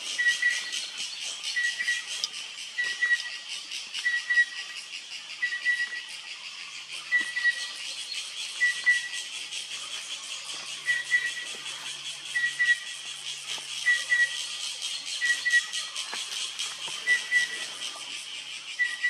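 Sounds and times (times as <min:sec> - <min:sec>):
cuckoo calling: 0:00.2 - 0:19.0.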